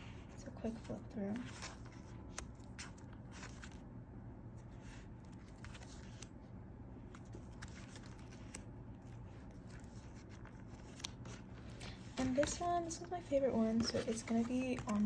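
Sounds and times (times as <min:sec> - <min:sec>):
low steady hum: 0:00.0 - 0:15.0
plastic pages flipping: 0:00.8 - 0:03.8, 0:04.6 - 0:06.4, 0:07.0 - 0:15.0.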